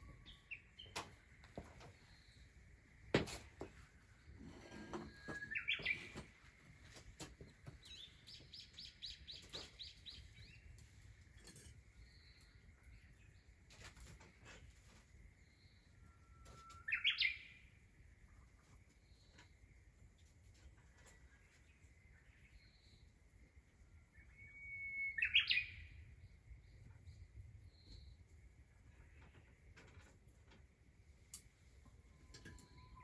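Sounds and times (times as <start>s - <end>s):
songbirds singing: 0.0s - 30.7s.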